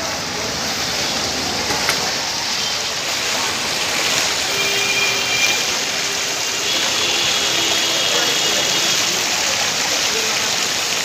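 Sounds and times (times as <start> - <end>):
floodwater rushing and splashing: 0.0 - 11.0.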